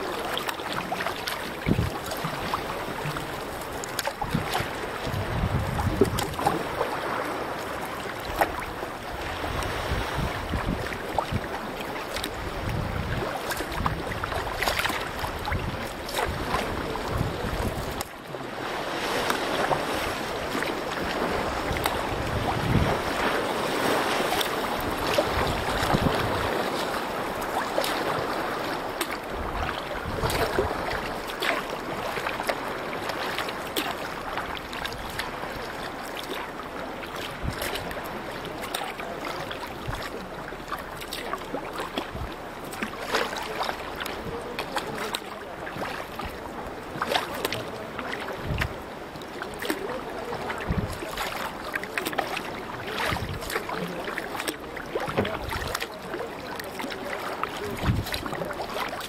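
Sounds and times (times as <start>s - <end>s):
water splashing around canoe: 0.0s - 59.0s.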